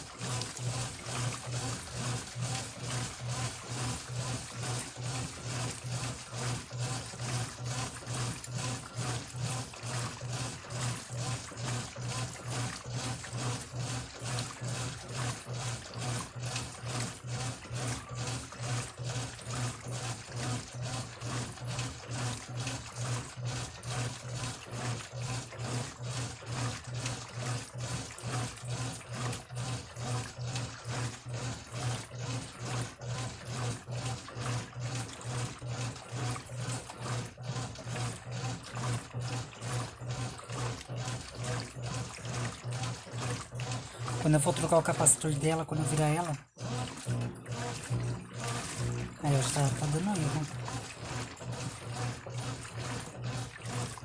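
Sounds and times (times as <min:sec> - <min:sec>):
washing machine agitating: 0:00.0 - 0:54.0.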